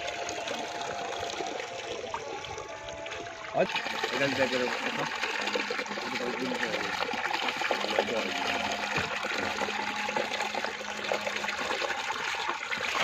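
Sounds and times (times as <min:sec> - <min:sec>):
shallow water trickling and splashing: 0:00.0 - 0:13.0.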